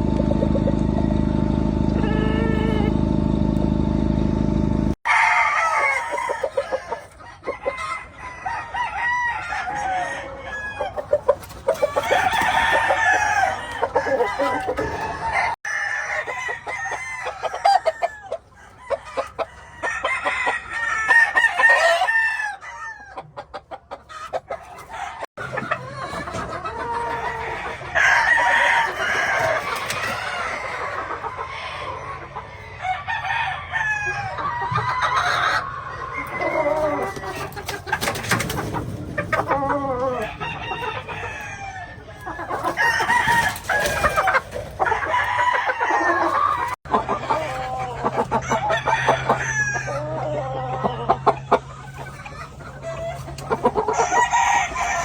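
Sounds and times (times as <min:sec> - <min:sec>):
hens clucking: 0:00.0 - 0:03.0, 0:05.1 - 0:55.0
roosters crowing: 0:00.0 - 0:03.2, 0:05.0 - 0:55.0.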